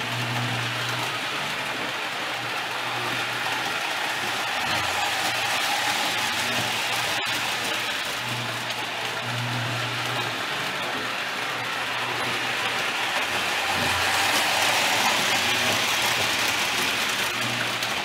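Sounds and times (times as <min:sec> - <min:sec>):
toy train clattering on track: 0:00.0 - 0:18.0.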